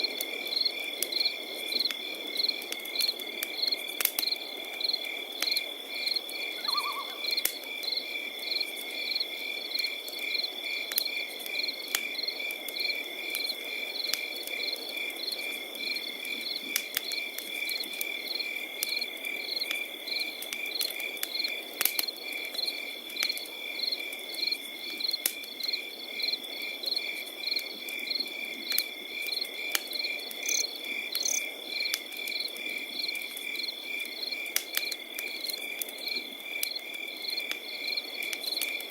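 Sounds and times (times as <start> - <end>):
campfire crackling and popping: 0.0 - 38.9
crickets chirping: 0.1 - 38.9.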